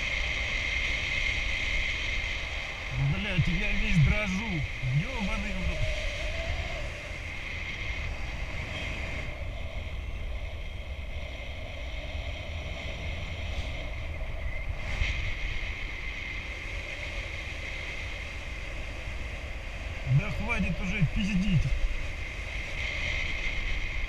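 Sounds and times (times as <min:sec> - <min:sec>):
airflow buffeting microphone: 0:00.0 - 0:24.0.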